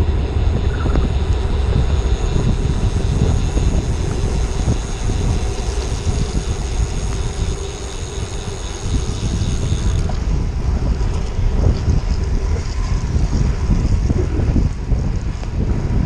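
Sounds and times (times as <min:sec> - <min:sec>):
tyre noise on wet road: 0:00.0 - 0:15.6
wind buffeting microphone: 0:00.0 - 0:16.0.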